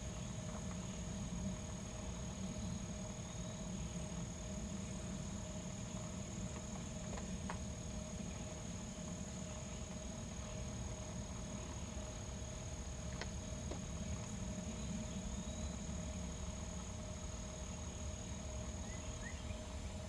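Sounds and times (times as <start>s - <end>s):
insects droning: 0.0s - 20.0s
low steady rumble: 0.0s - 20.0s.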